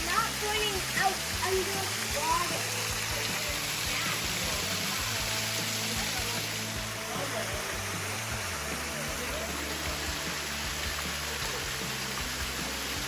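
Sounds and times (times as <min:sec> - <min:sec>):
music of held low notes: 0:00.0 - 0:13.0
small waterfall rushing: 0:00.0 - 0:13.0.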